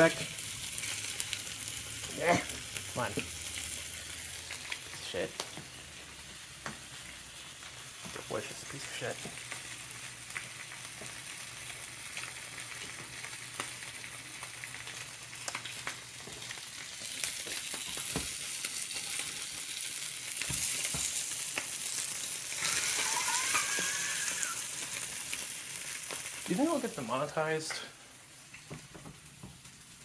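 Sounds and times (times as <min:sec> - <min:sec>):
meat sizzling in a pan: 0:00.0 - 0:30.0.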